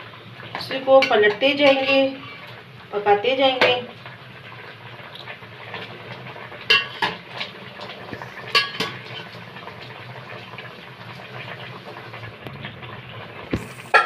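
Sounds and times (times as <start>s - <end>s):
pot simmering: 0.0s - 14.0s.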